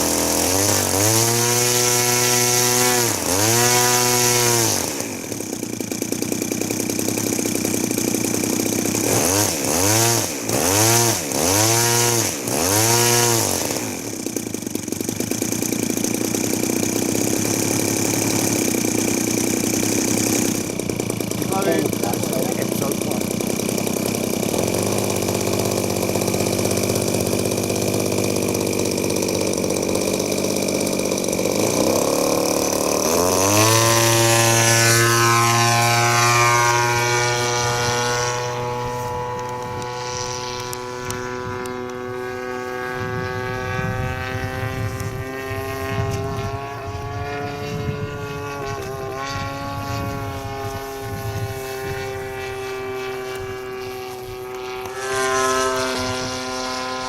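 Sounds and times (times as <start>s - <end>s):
model airplane motor and propeller: 0.0s - 57.0s.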